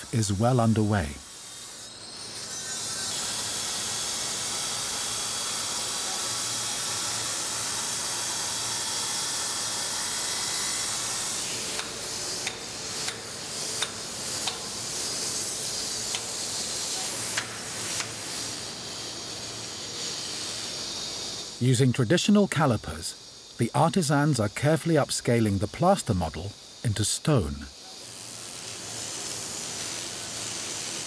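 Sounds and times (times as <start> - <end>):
angle grinder cutting stone: 0.0 - 21.6, 25.2 - 31.0.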